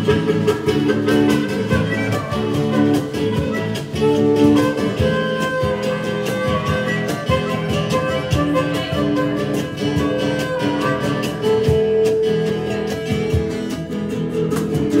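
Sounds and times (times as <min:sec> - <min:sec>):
harmonica: 0:00.0 - 0:12.8
acoustic guitars strumming: 0:00.0 - 0:15.0.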